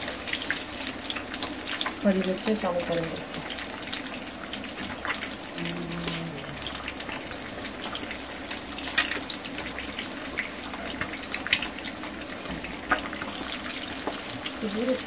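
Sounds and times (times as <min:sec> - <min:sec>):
eggs sizzling in oil: 0:00.0 - 0:15.0
oil crackling and popping: 0:00.0 - 0:15.0.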